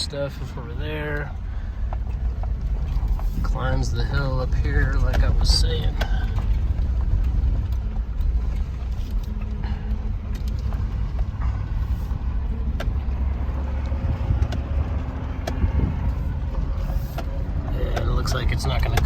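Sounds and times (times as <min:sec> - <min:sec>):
truck engine and tyre rumble: 0:00.0 - 0:19.0.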